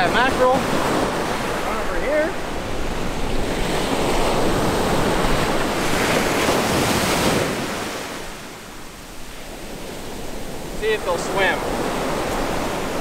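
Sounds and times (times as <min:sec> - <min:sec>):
ocean surf breaking: 0:00.0 - 0:13.0
wind rumbling on microphone: 0:00.0 - 0:13.0.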